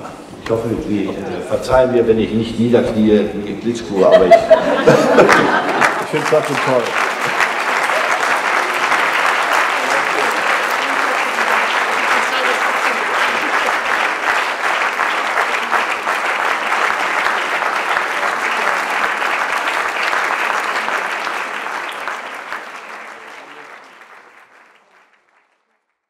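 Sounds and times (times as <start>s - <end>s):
audience applauding: 4.0s - 26.0s.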